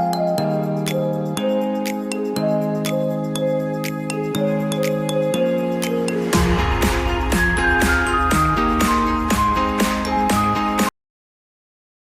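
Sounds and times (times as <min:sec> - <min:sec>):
background music with a beat: 0:00.0 - 0:10.9.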